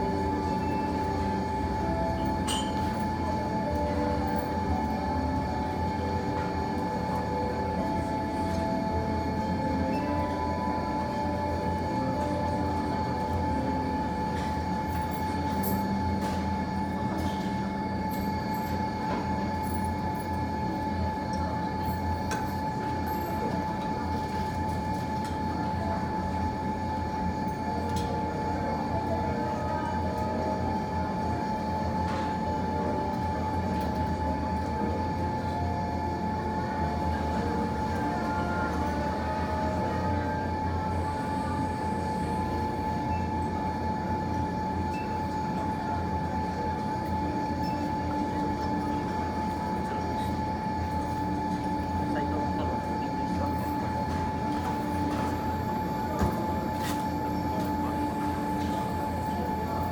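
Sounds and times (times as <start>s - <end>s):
machinery hum with whine: 0.0s - 59.9s.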